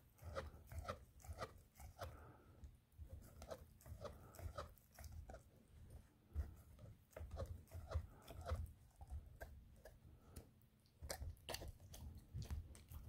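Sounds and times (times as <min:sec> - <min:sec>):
dog gnawing on a bone: 0:00.0 - 0:13.0.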